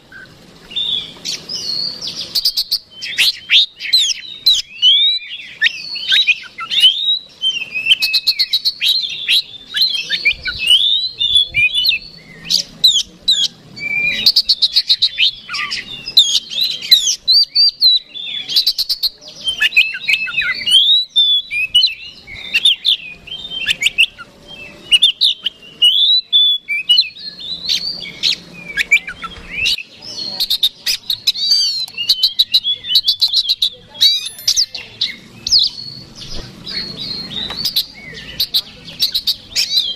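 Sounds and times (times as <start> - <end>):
bird singing whistles and ticks: 0.0 - 39.9.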